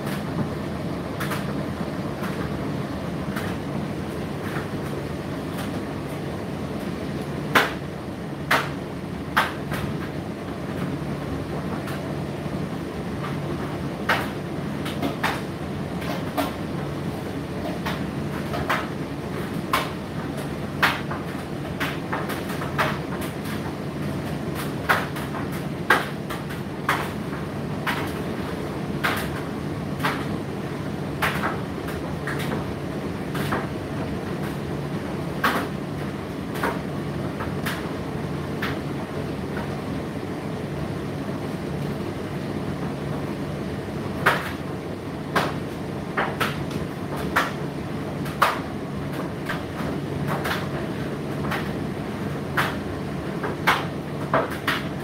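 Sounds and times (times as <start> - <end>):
tumble dryer motor and drum hum: 0.0 - 55.0.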